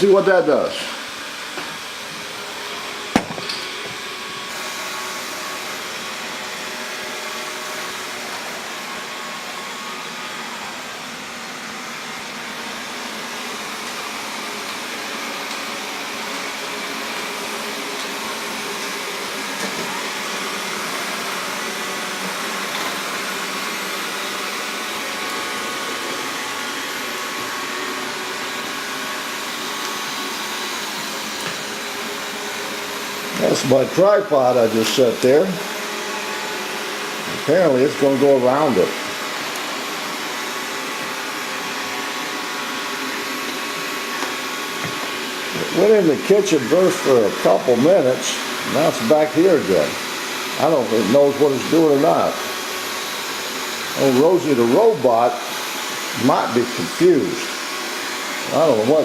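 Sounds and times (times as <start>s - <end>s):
robot vacuum cleaner whirring: 0.0s - 59.0s.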